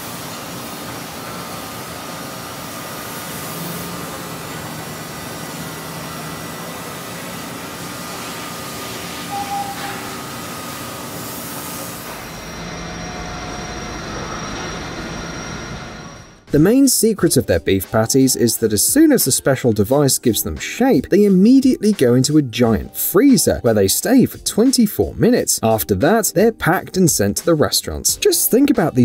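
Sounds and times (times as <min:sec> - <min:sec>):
machinery whirring and humming: 0:00.0 - 0:29.0.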